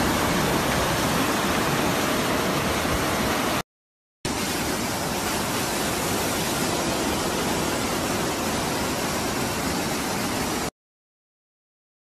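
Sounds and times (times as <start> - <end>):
floodwater rushing: 0.0 - 3.6, 4.3 - 10.7.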